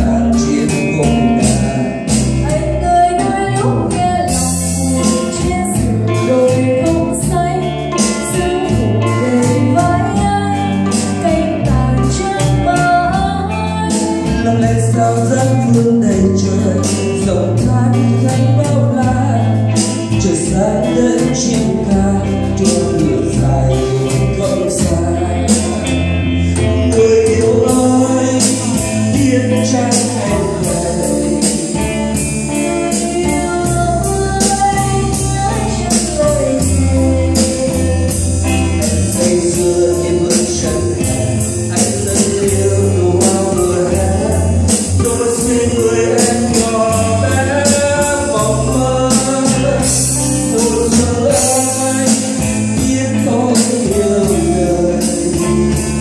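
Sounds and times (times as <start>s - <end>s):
band playing: 0.0s - 56.0s
man singing into microphone: 0.0s - 56.0s
woman singing into microphone: 2.4s - 56.0s.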